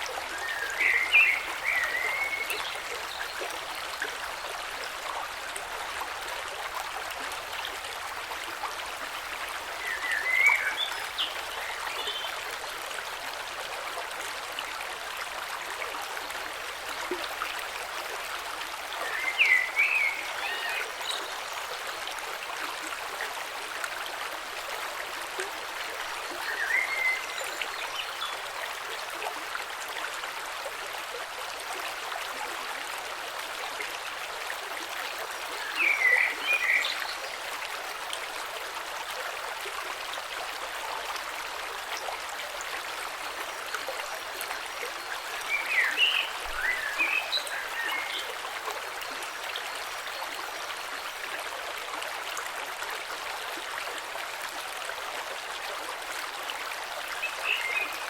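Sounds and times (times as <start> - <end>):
creek babbling over stones: 0.0 - 58.0.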